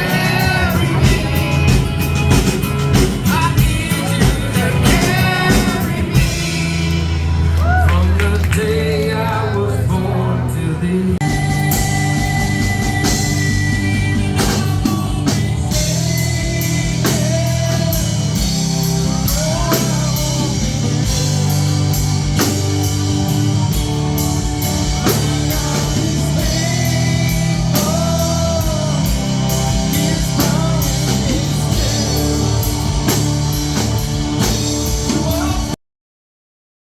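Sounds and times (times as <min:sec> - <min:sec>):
person singing: 0:00.0 - 0:22.5, 0:24.8 - 0:34.0, 0:34.8 - 0:35.8
live band playing worship song: 0:00.0 - 0:35.8.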